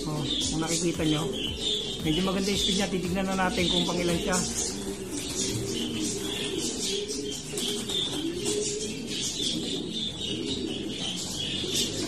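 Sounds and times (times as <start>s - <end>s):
high chirping: 0.0s - 12.0s
pigeons cooing: 0.0s - 12.0s.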